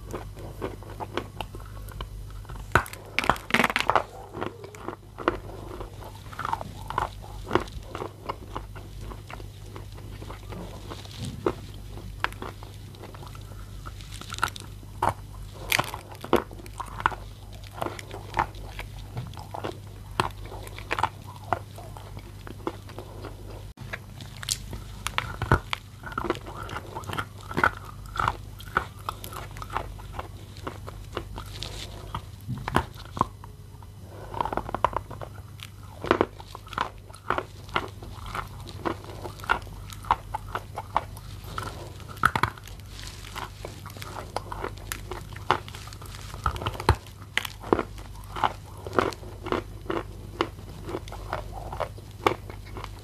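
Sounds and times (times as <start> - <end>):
crunching bites: 0.0 - 33.5, 34.3 - 53.0
chewing: 0.0 - 53.0
steady low hum: 0.0 - 53.0.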